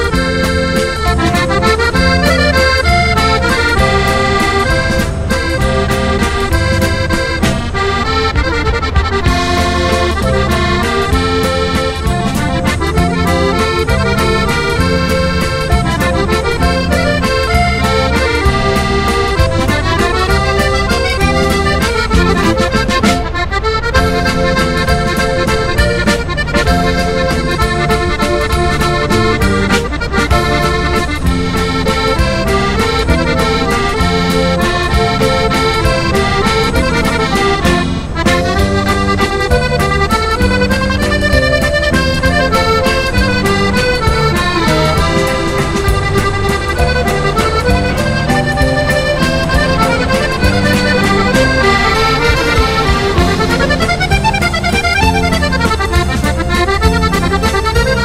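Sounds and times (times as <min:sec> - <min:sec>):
accordion tune with bass: 0:00.0 - 0:58.0.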